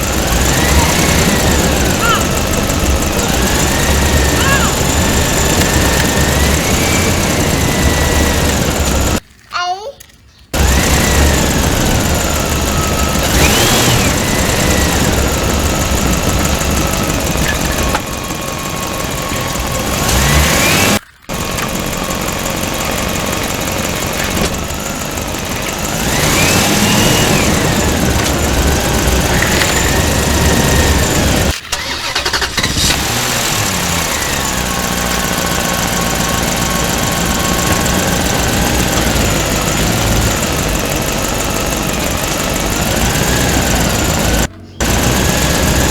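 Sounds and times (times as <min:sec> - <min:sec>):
toy vehicle engines revving: 0:00.0 - 0:45.9.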